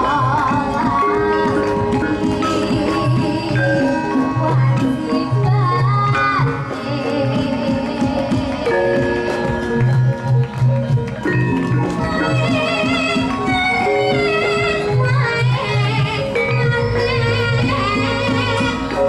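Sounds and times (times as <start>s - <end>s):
woman singing into a microphone: 0.0s - 10.3s, 11.6s - 19.0s
gamelan held pitched notes: 0.0s - 19.0s.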